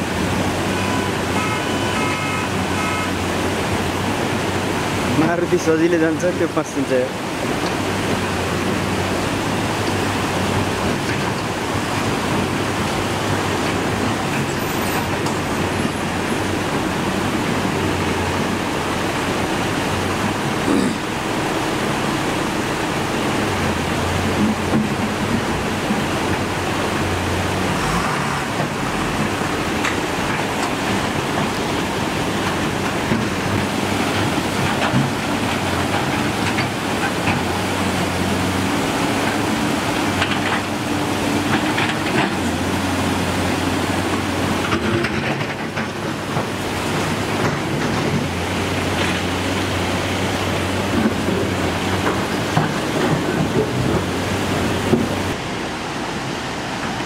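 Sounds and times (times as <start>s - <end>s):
flood torrent rushing: 0.0s - 57.0s
vehicle and excavator engines: 0.0s - 57.0s.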